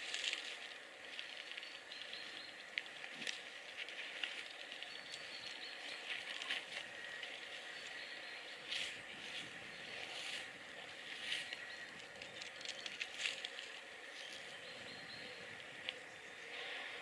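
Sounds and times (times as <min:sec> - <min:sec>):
steady outdoor hiss: 0:00.0 - 0:17.0
harsh bird calls: 0:01.4 - 0:17.0.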